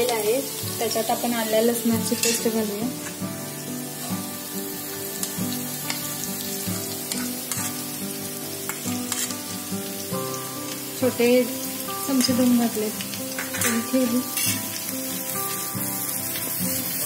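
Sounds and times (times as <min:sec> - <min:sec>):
onions sizzling in oil: 0:00.0 - 0:17.0
soft background music: 0:00.0 - 0:17.0.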